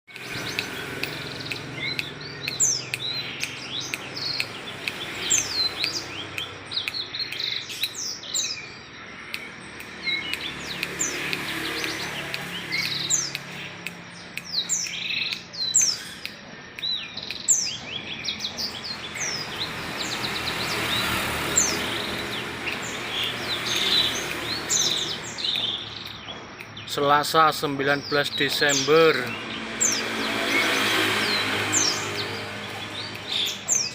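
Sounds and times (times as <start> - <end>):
songbird singing quick chirps: 0.1 - 33.9.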